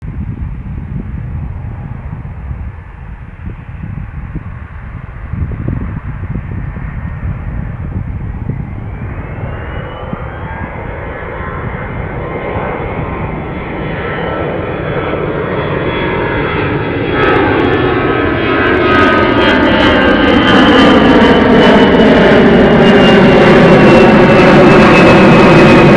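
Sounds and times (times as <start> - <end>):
jet airliner flying low: 0.0 - 25.9
rising engine whine: 0.0 - 25.9.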